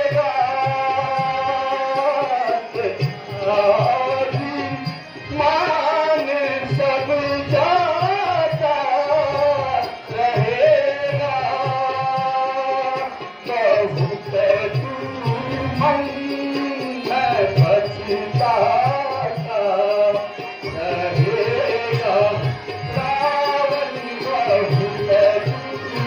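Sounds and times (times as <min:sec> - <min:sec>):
person singing: 0:00.0 - 0:26.0
tabla drumming: 0:00.0 - 0:26.0.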